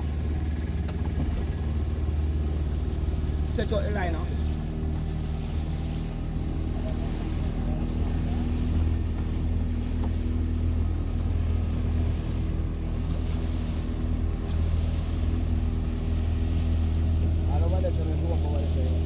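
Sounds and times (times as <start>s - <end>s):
motorboat engine humming: 0.0s - 19.0s
water noise: 0.0s - 19.0s
wind: 0.0s - 19.0s.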